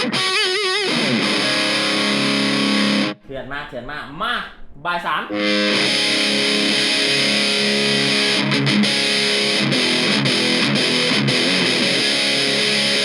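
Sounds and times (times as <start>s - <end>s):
distorted electric guitar chords: 0.0s - 3.2s, 5.3s - 13.0s.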